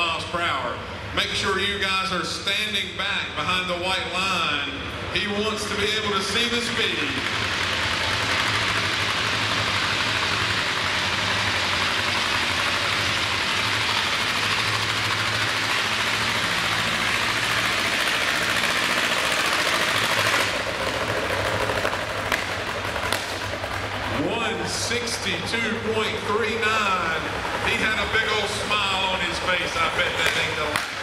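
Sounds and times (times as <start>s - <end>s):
tractor engine running under load: 3.2s - 31.0s.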